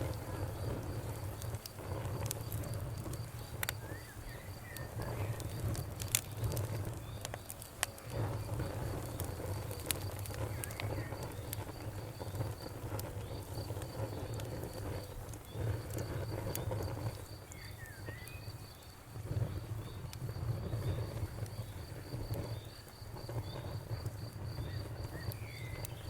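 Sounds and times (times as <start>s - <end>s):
campfire crackling: 0.0s - 26.0s
cricket chirping: 0.0s - 26.0s.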